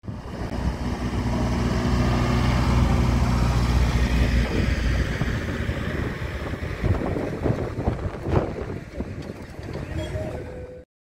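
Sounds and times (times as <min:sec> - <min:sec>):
locomotive engine humming: 0:00.0 - 0:10.8
carriages rolling by: 0:00.1 - 0:10.8.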